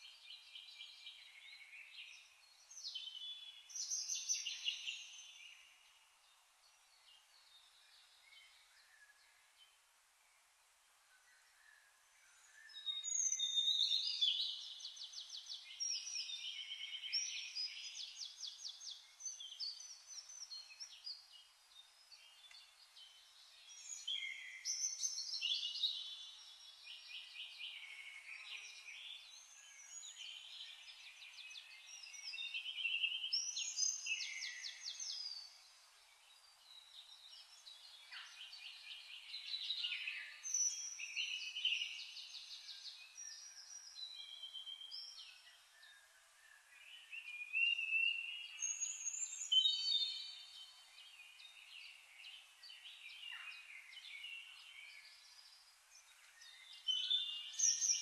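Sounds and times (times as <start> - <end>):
songbirds singing trills: 0.0 - 58.0.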